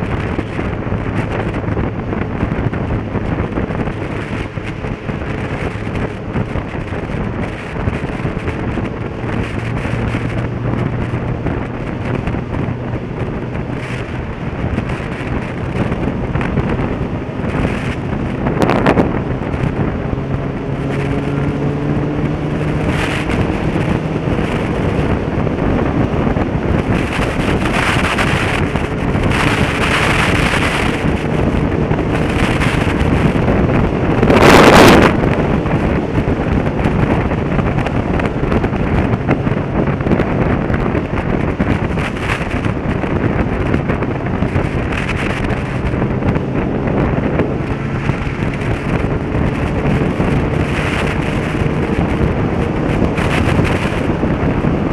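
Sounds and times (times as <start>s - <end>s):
loud whoosh: 0.0s - 54.9s
motorcycle engine: 0.0s - 54.9s
wind rushing over microphone: 0.0s - 54.9s.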